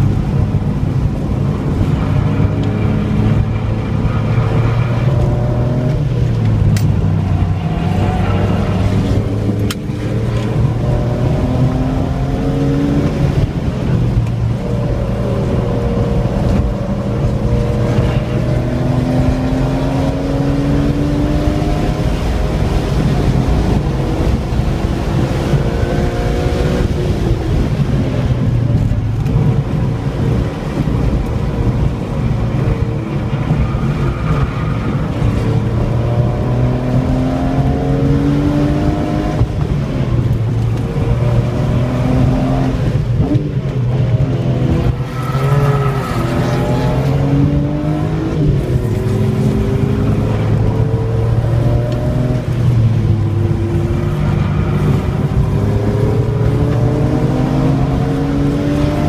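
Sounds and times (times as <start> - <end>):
car engine accelerating: 0.0 - 59.0
road noise drone: 0.0 - 59.0.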